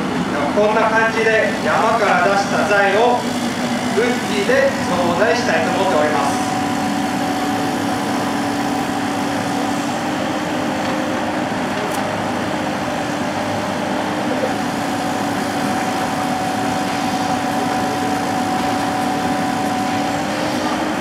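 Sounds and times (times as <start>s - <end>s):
diesel engine drone: 0.0s - 21.0s
hydraulic hum: 0.0s - 21.0s.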